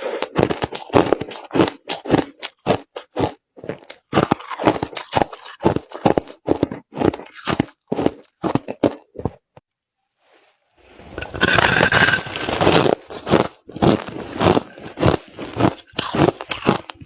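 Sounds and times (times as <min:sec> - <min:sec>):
chewing crushed ice: 0:00.0 - 0:09.6, 0:11.2 - 0:17.0.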